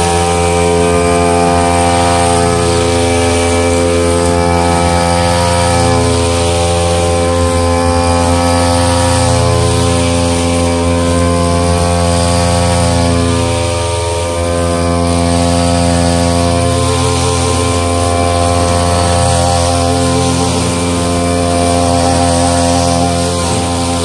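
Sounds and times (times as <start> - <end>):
brush cutter engine running: 0.0 - 24.0
cutting head trimming grass: 0.0 - 24.0.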